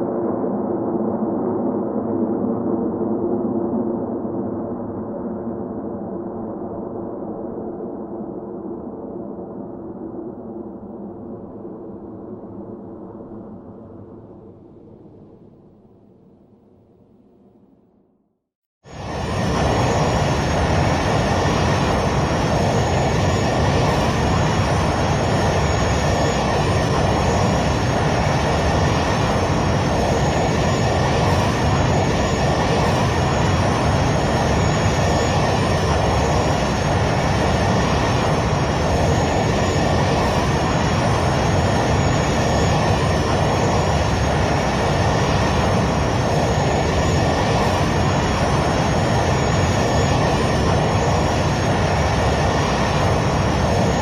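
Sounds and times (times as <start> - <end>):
jet airliner engine noise: 0.0 - 17.7, 18.8 - 54.0.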